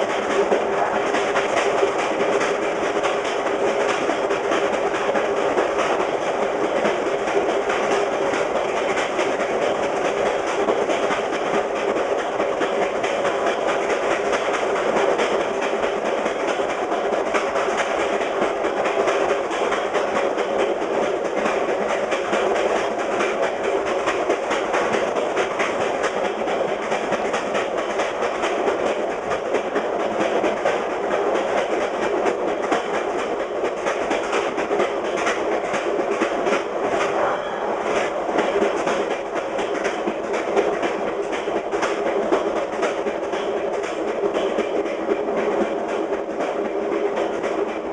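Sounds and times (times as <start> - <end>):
clickety-clack of rail joints: 0.0 - 47.9
wheels on rail: 0.0 - 47.9.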